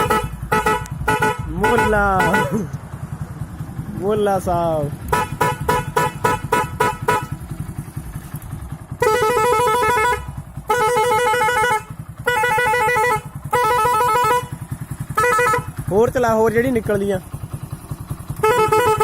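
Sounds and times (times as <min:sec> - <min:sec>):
motorcycle horn beeping: 0:00.0 - 0:02.8, 0:05.0 - 0:16.1, 0:16.8 - 0:19.0
motorcycle engine idling: 0:00.0 - 0:19.0.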